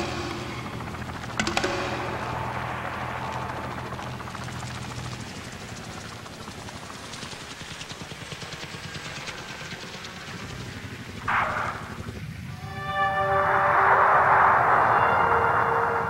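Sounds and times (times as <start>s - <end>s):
helicopter rotor chop: 0.0s - 16.0s.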